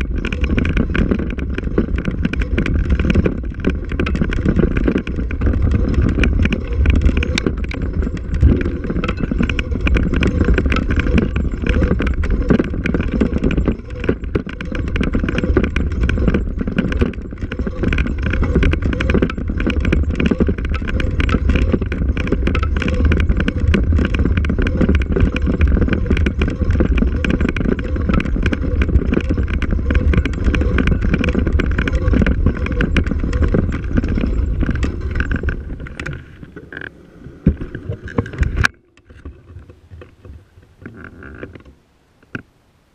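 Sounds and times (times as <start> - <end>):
wind on microphone: 0.0 - 41.7
vehicle rumbling on dirt trail: 0.0 - 42.4.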